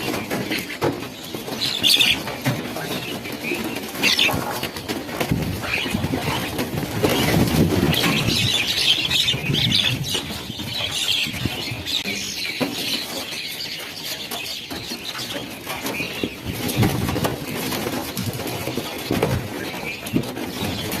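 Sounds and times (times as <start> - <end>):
birds calling: 0.0 - 21.0
wings flapping: 0.0 - 21.0.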